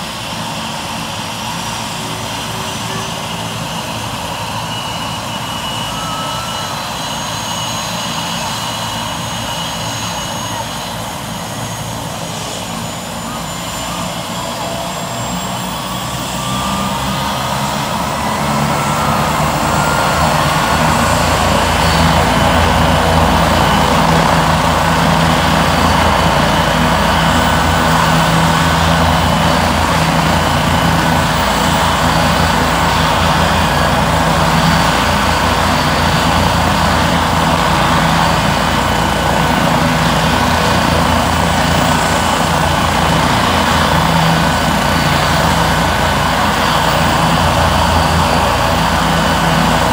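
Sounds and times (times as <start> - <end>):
helicopter engine and rotors: 0.0 - 49.9
faint rising whine: 0.8 - 49.9.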